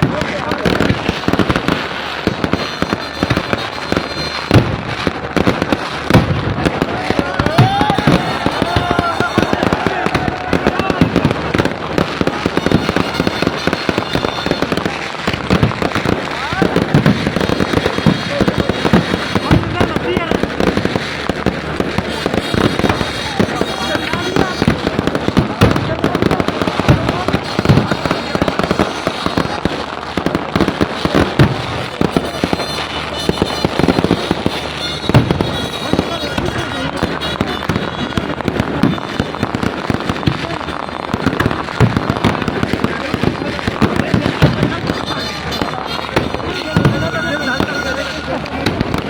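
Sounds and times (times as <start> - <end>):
firecrackers banging and crackling: 0.0 - 49.0
people's voices: 0.0 - 49.0.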